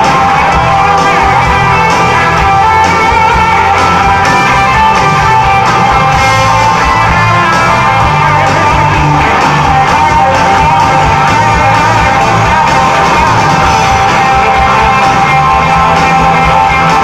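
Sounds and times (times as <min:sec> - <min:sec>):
drum kit: 0:00.0 - 0:17.0
electric guitars: 0:00.0 - 0:17.0.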